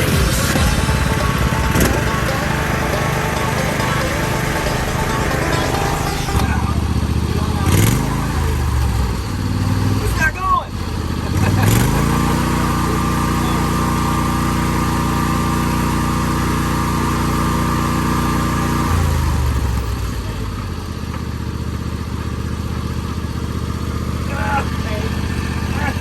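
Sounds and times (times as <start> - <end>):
riding lawn mower engine: 0.0 - 26.0.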